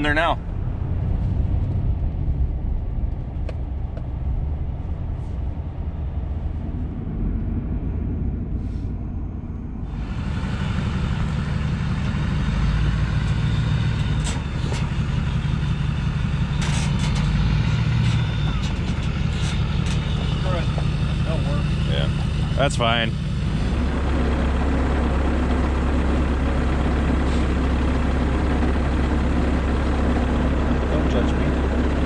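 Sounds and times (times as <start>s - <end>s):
truck engine and road noise: 0.0s - 32.0s
truck engine idling: 0.0s - 32.0s.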